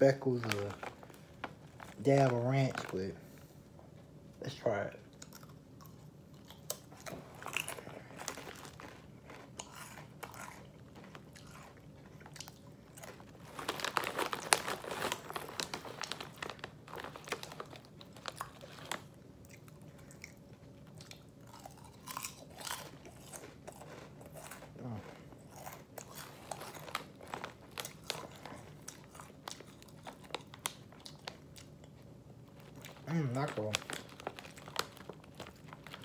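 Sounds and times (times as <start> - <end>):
chip bag crinkling: 0.0 - 3.2, 6.4 - 36.0
potato chips crunching: 0.0 - 3.2, 4.6 - 36.0.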